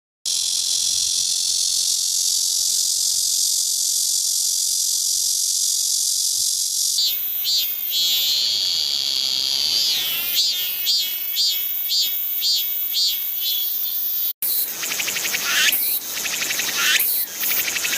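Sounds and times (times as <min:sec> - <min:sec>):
cicada buzzing drone: 0:00.3 - 0:17.9
cicada rhythmic pulsing calls: 0:00.3 - 0:17.9.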